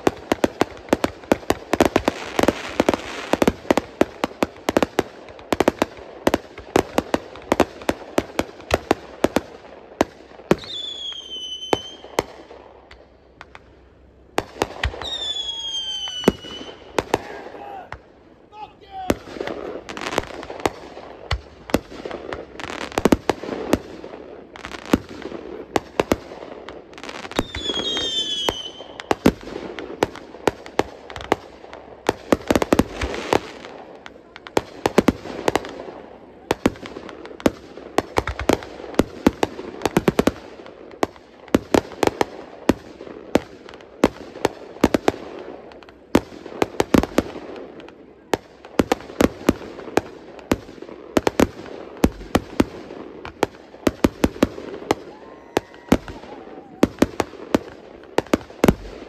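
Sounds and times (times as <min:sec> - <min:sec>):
fireworks bangs and pops: 0:00.0 - 0:59.0
fireworks crackling: 0:00.0 - 0:59.0.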